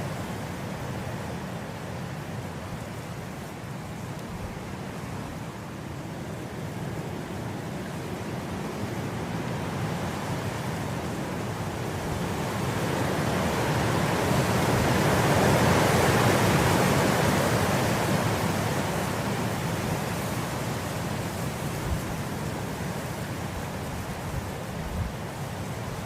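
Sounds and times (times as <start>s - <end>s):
wind blowing through grass: 0.0s - 26.0s.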